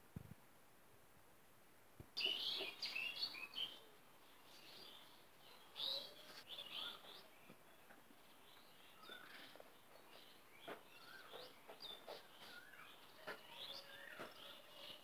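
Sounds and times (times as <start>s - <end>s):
birds chirping: 2.2s - 15.0s.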